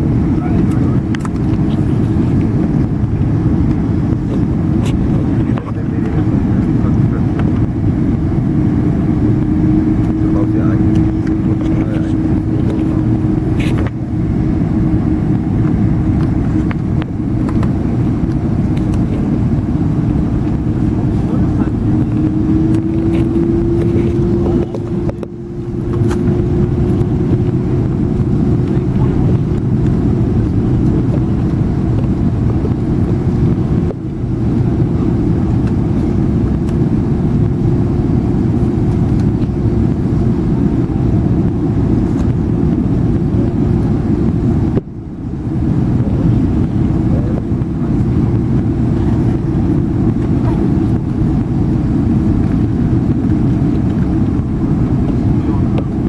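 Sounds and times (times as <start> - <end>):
jet engines roaring in cabin: 0.0 - 56.0
steady hum: 0.0 - 56.0.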